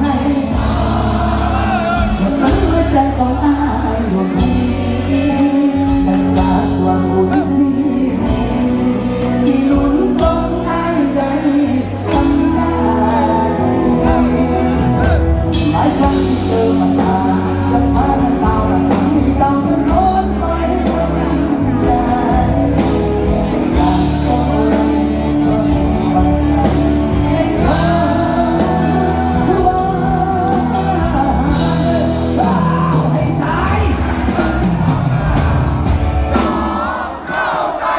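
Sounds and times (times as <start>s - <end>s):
live band music with singing: 0.0s - 37.9s.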